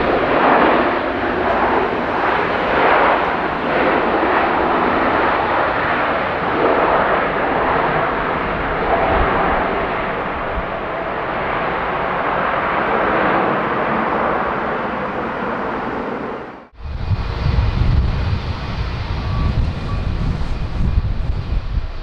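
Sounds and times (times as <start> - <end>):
jet engine rush: 0.0 - 22.0
wind buffeting microphone: 0.0 - 22.0.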